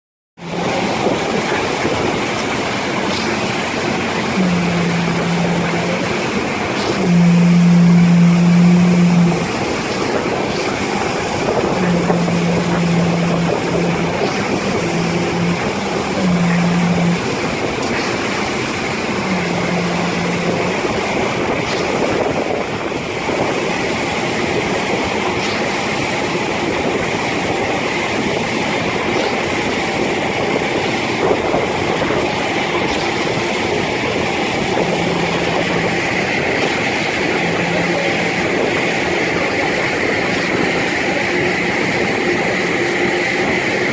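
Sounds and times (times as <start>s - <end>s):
heavy machinery humming: 0.4s - 43.9s.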